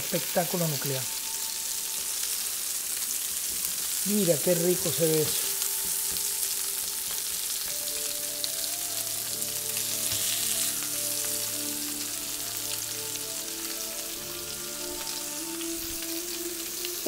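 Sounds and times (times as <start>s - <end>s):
burger patties sizzling in a pan: 0.0s - 17.0s.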